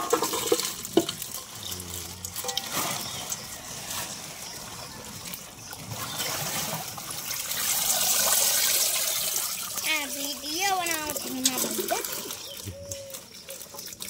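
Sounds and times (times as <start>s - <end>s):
water pouring into tank: 0.0s - 14.0s.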